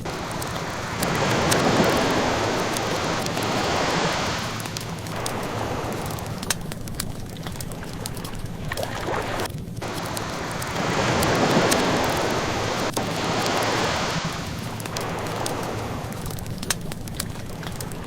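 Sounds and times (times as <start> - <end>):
ocean waves washing in: 0.0 - 18.0
wood fire crackling and popping: 0.0 - 18.0.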